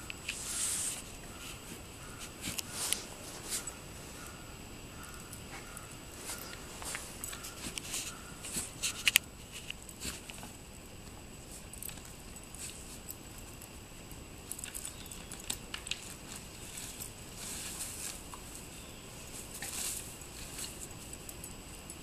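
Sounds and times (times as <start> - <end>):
dog gnawing stick in snow: 0.1 - 13.8, 14.4 - 21.5.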